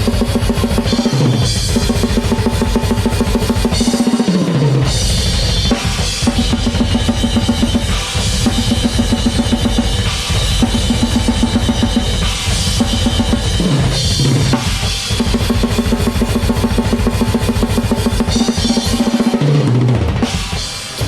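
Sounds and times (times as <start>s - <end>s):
drum kit blast beats: 0.0s - 21.0s.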